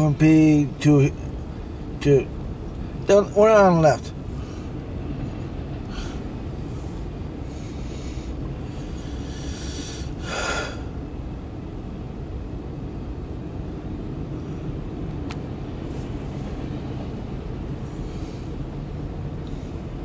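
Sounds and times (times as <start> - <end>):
freight cars rumbling on rails: 0.0 - 20.0.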